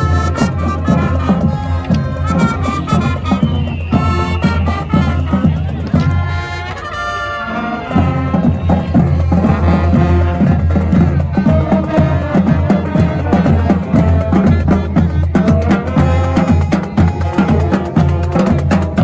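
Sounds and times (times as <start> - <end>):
brass horns holding notes: 0.0 - 19.0
steady percussion beat: 0.0 - 19.0.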